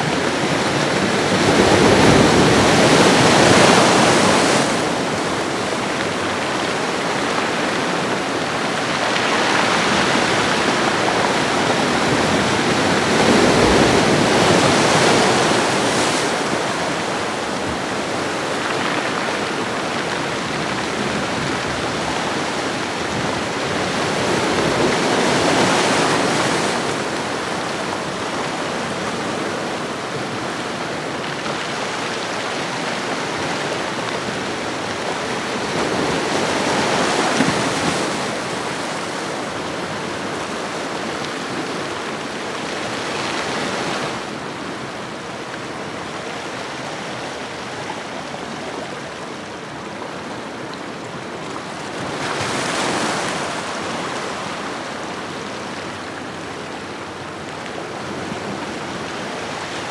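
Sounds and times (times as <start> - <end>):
ocean waves washing onto shore: 0.0 - 59.9.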